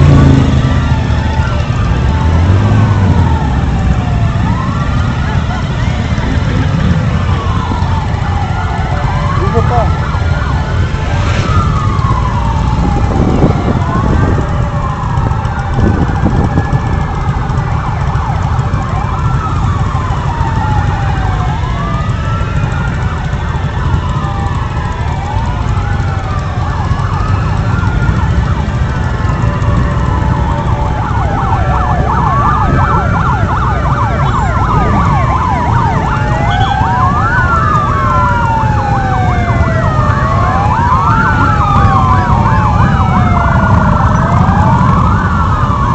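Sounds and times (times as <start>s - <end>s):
motorcycle engines rumbling: 0.0s - 45.9s
wailing sirens: 0.0s - 45.9s
wind: 0.0s - 45.9s.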